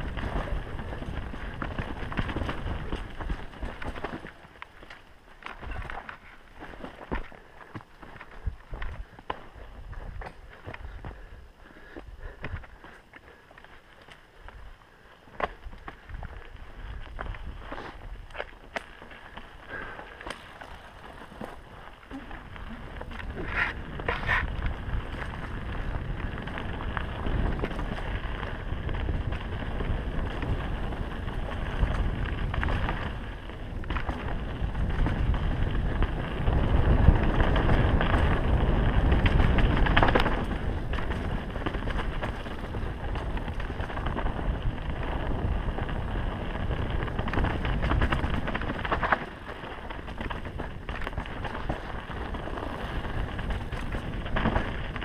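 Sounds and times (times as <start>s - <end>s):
wind rush on microphone: 0.0s - 4.4s, 5.6s - 13.4s, 14.3s - 55.0s
bike rattles and knocks: 0.0s - 11.2s, 15.3s - 55.0s
tyre noise on dirt: 0.0s - 55.0s.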